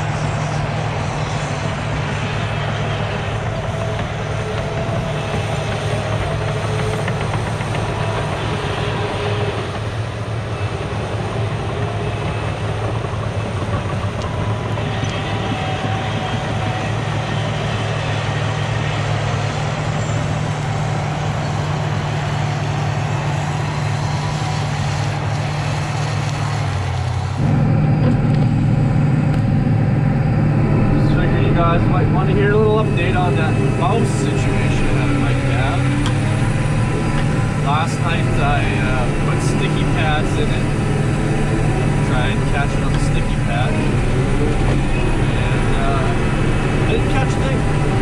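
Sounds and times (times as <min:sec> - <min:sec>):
diesel loader engine running: 0:00.0 - 0:48.0.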